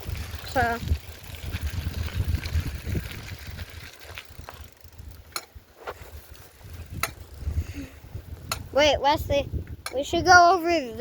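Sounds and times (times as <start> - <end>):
bicycle clicks and rattles: 0.0 - 11.0
wind and rolling rumble: 0.0 - 11.0.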